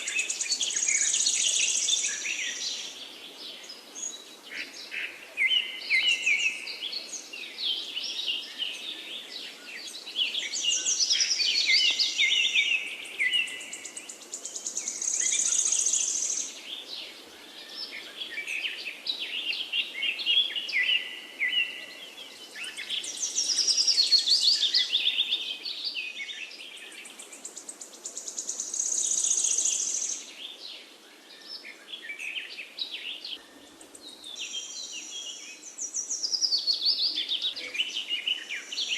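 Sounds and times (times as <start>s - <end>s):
faint steady hiss: 0.0s - 38.9s
forest birds singing: 0.0s - 38.9s.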